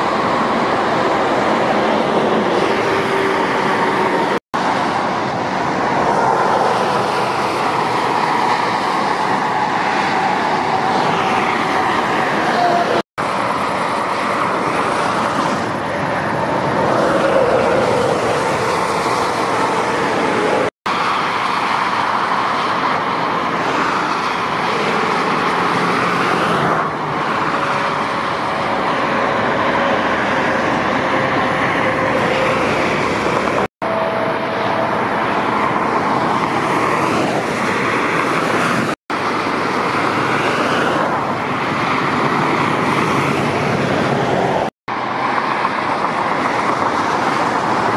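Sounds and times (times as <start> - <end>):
motorway traffic passing at speed: 0.0 - 47.9.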